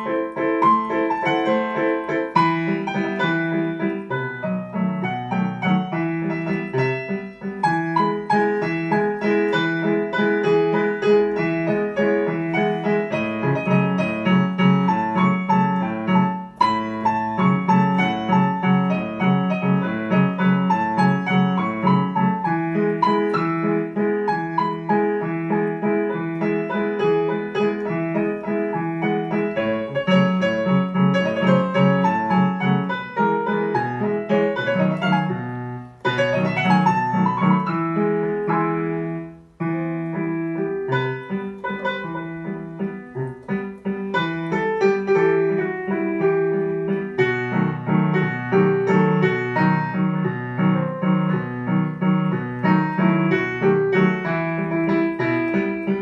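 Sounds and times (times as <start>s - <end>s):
digital piano playing: 0.0s - 56.0s.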